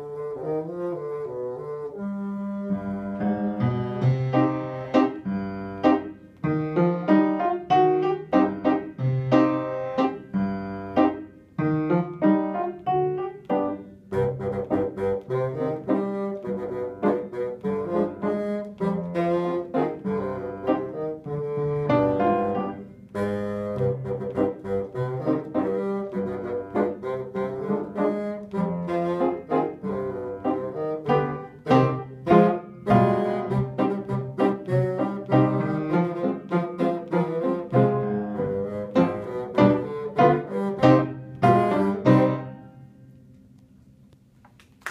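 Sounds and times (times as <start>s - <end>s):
solo bassoon melody: 0.0s - 42.9s.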